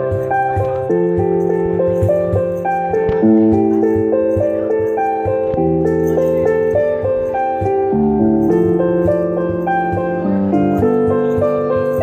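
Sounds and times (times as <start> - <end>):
keyboard chords: 0.0 - 12.0
keyboard melody line: 0.0 - 12.0.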